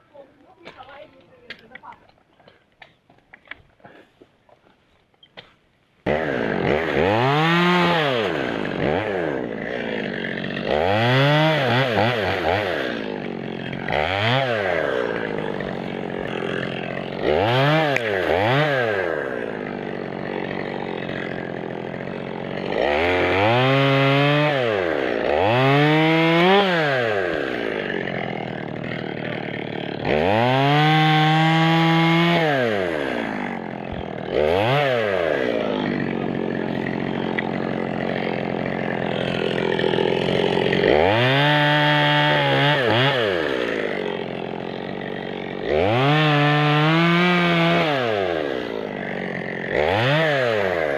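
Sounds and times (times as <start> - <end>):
chainsaw cutting wood: 0.2 - 50.9.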